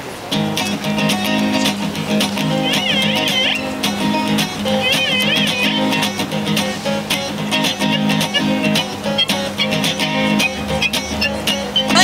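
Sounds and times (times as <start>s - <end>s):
strummed acoustic guitar: 0.2s - 12.0s.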